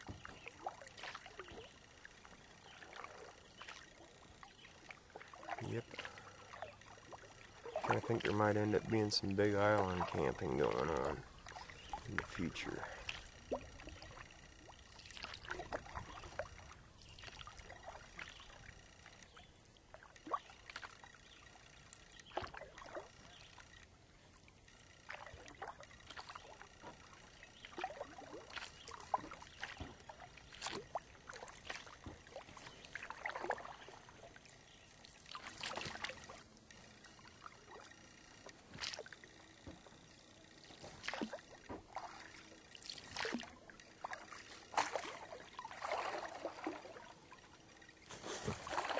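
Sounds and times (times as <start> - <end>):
paddle splashing in water: 0.0 - 48.9.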